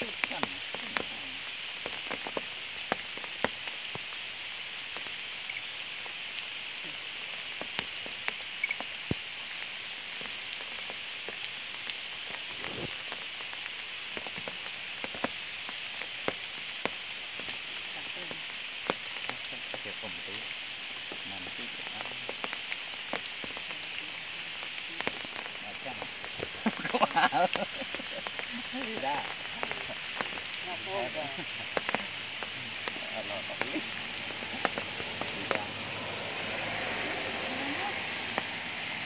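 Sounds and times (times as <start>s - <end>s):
raindrops clicking: 0.0s - 38.8s
light rain hiss: 0.0s - 39.0s.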